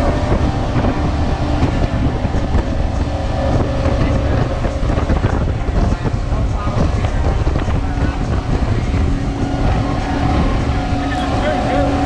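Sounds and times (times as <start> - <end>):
outboard engines running hard: 0.0 - 12.0
water rushing along hull: 0.0 - 12.0
wind buffeting microphone: 0.0 - 12.0.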